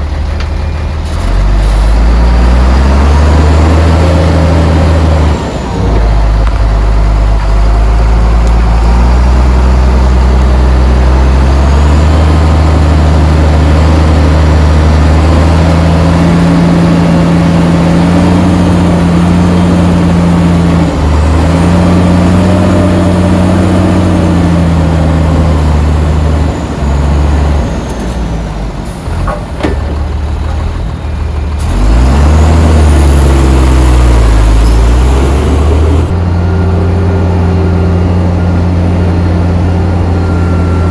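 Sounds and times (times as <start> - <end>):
heavy diesel engine revving: 0.0 - 40.9.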